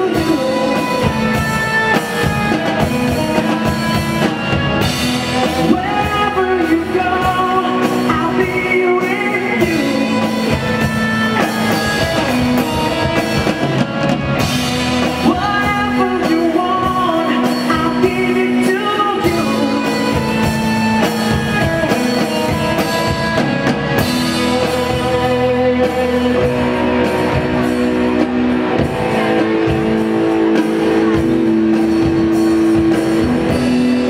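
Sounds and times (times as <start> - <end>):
man singing: 0.0 - 13.8, 14.5 - 28.2
drum kit: 0.0 - 34.0
electric guitars: 0.0 - 34.0.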